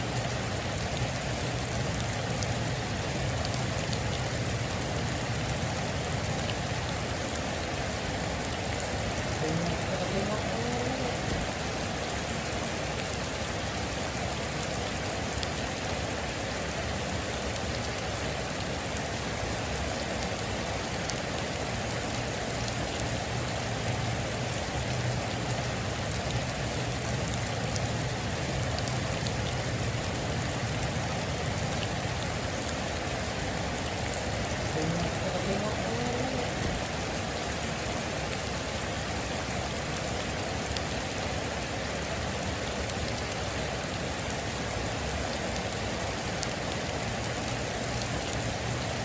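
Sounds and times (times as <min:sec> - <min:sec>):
heavy rain on a metal roof: 0:00.0 - 0:49.0.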